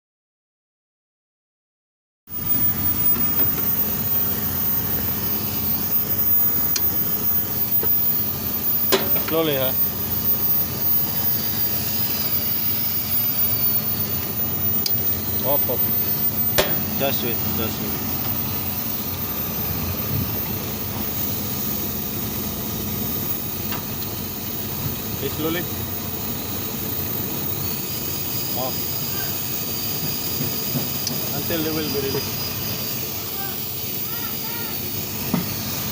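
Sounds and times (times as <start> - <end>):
machinery hum and rumble: 2.3 - 35.9.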